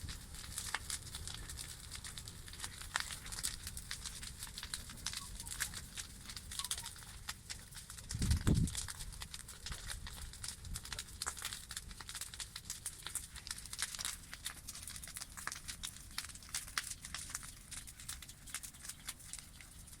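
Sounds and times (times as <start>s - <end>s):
campfire crackling and popping: 0.0s - 20.0s
faint fire hiss: 0.0s - 20.0s.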